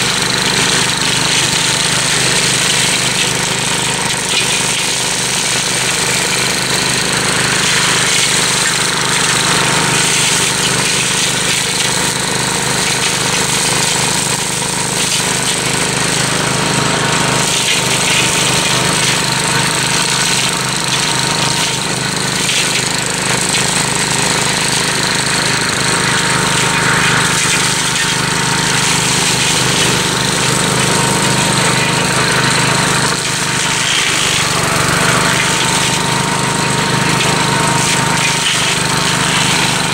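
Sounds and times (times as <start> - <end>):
cutter high whine: 0.0 - 39.9
tractor engine drone: 0.0 - 39.9.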